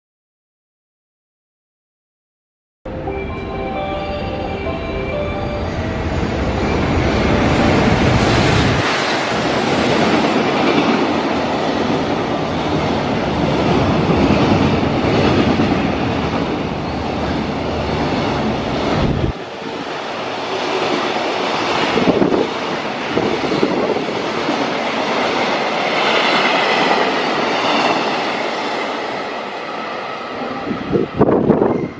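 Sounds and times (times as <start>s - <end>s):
freight train wheels on rail: 3.0s - 31.9s.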